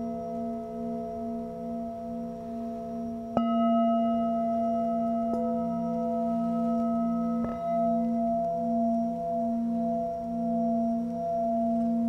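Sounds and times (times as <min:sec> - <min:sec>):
singing bowls ringing: 0:00.0 - 0:12.0.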